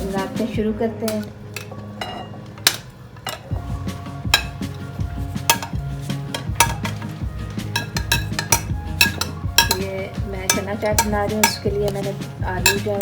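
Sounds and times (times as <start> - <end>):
background music: 0.0 - 13.0
dishes and utensils clinking: 0.0 - 13.0.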